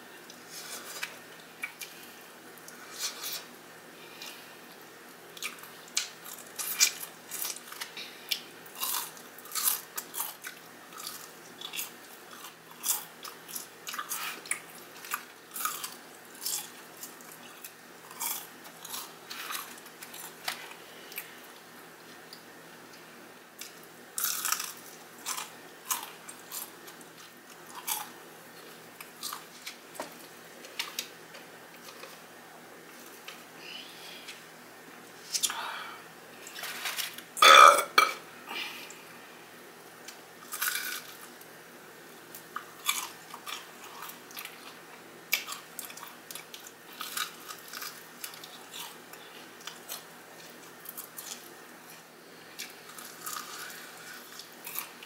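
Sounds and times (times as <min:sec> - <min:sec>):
crunchy chewing of fried chicken: 0:00.3 - 0:22.2, 0:22.9 - 0:31.1, 0:40.0 - 0:41.5, 0:42.3 - 0:55.0.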